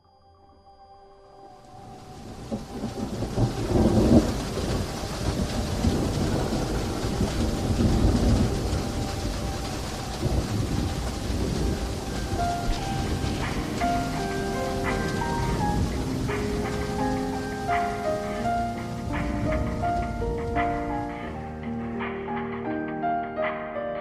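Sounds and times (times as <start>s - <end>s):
faint sustained music tones: 0.0s - 24.0s
rain hissing: 1.6s - 23.2s
thunder rumble: 1.8s - 23.6s.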